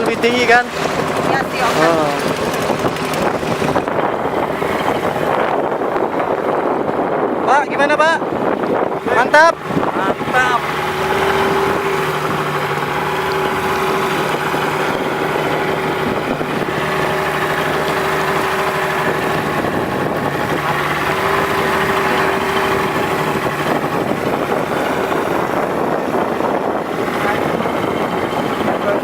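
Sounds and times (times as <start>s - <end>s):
two-stroke boat engine running: 0.0s - 29.0s.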